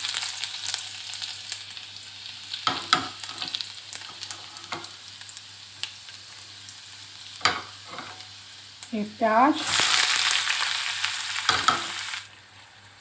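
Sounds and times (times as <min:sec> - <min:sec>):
seeds and garlic sizzling in oil: 0:00.0 - 0:13.0.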